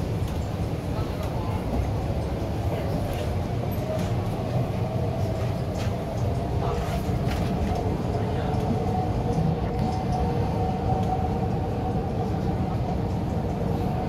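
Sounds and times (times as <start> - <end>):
wheels rumbling on track: 0.0 - 14.0.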